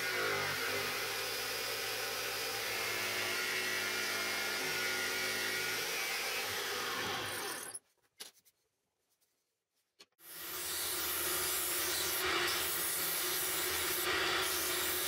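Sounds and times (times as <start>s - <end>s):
scroll saw cutting wood: 0.0s - 7.8s, 10.2s - 15.0s.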